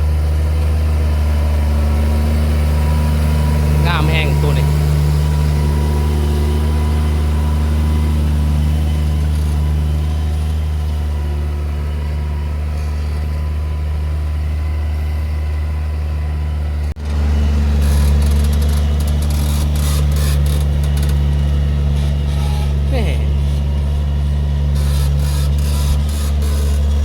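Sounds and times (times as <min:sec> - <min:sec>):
tractor diesel engine drone: 0:00.0 - 0:27.0.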